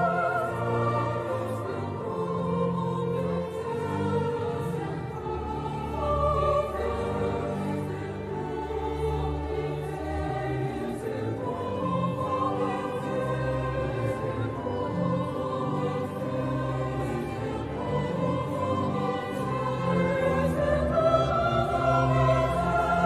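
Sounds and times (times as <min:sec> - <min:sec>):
choir singing sacred music: 0:00.0 - 0:23.0.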